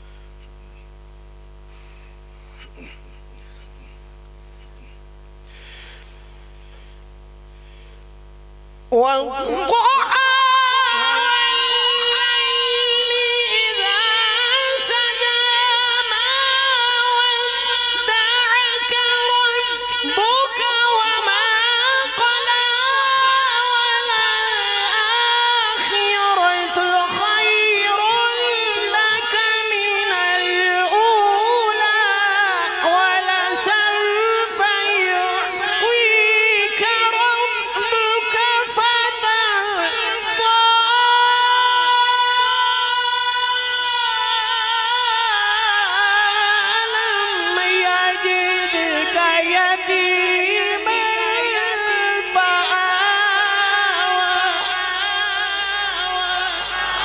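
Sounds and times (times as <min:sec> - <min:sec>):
faint background noise: 0:00.0 - 0:57.0
mains hum through speakers: 0:00.0 - 0:57.0.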